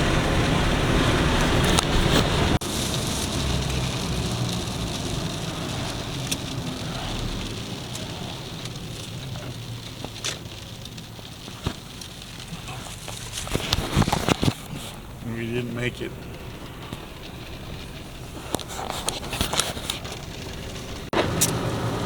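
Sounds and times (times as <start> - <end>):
rain drops ticking: 0.0 - 22.0
steady rain: 0.0 - 22.0
vehicle road noise: 0.0 - 22.0.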